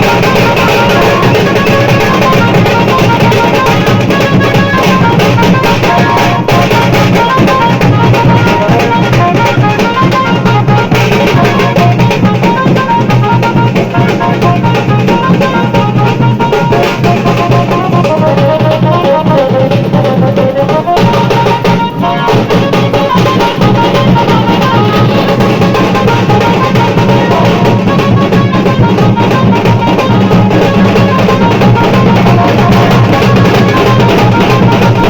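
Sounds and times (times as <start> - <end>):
drums beating steadily: 0.0 - 35.0
loud band music: 0.0 - 35.0.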